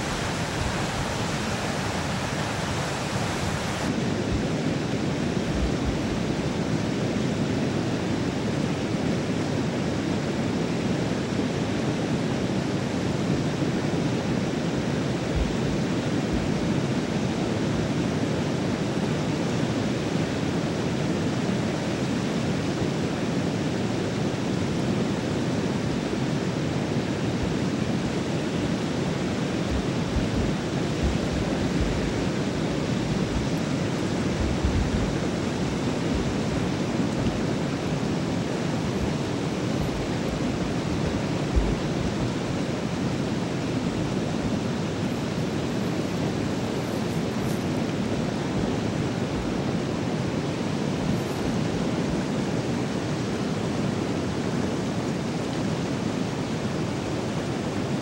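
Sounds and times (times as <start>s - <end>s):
whitewater rushing from dam gates: 0.0s - 58.0s.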